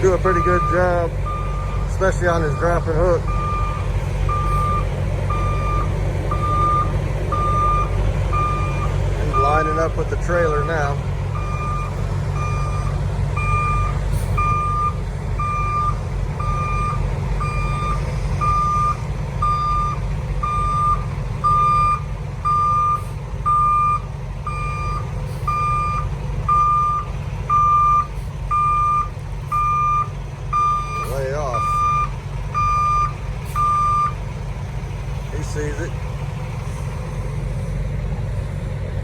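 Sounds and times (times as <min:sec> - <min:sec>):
truck backup alarm beeping: 0:00.0 - 0:37.4
diesel truck engine running: 0:00.0 - 0:39.0.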